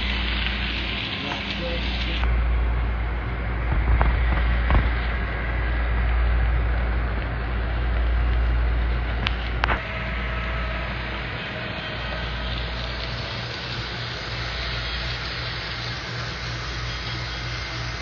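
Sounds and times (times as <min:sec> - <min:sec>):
model train rolling hum: 0:00.0 - 0:18.0.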